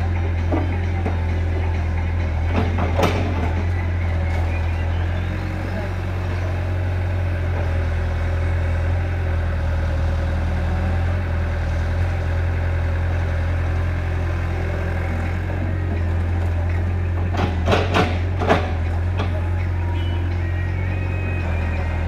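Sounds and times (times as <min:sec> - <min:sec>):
diesel engines droning: 0:00.0 - 0:22.0.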